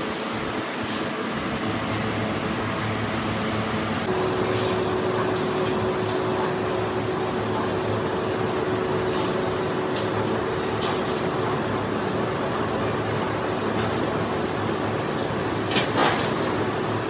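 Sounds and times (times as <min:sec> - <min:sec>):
factory machinery din: 0:00.1 - 0:17.0
electric hum: 0:01.4 - 0:17.0.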